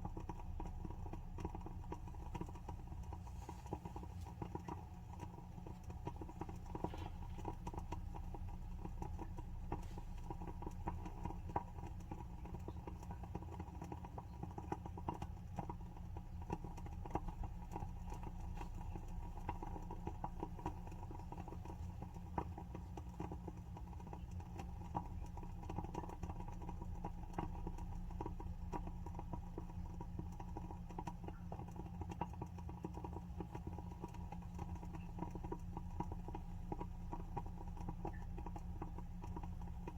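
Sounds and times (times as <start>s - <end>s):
low steady hum: 0.0s - 39.9s
wooden candle wick crackling: 0.0s - 39.9s.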